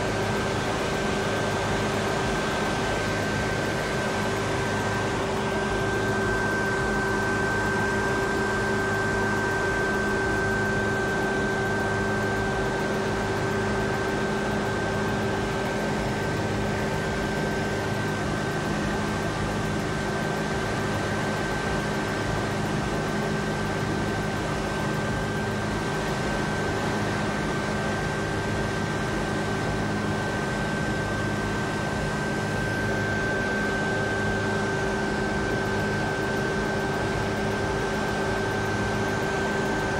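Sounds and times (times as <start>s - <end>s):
high whine: 0.0s - 39.9s.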